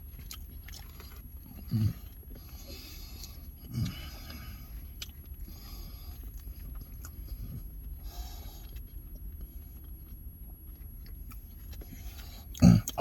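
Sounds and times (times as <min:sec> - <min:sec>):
close-miked chewing: 0:00.0 - 0:13.0
low steady hum: 0:00.0 - 0:13.0.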